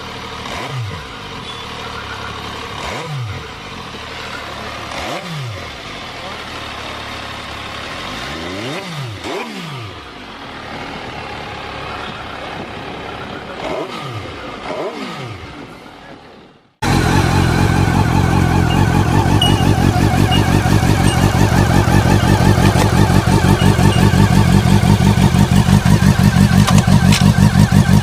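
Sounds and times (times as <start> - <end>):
motorcycle engine revving: 0.0 - 28.0
motorcycle engine running steadily: 0.0 - 28.0.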